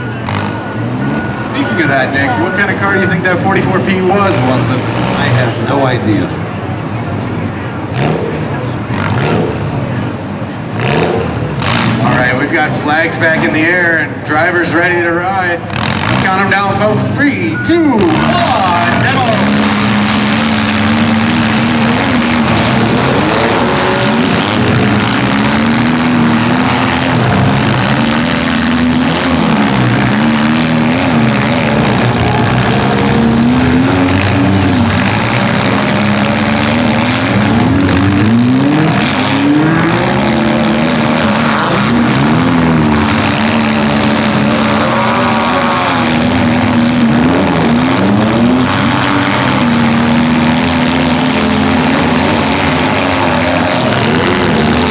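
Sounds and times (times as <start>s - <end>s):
car engines revving: 0.0s - 54.9s
cars crashing: 0.0s - 54.9s.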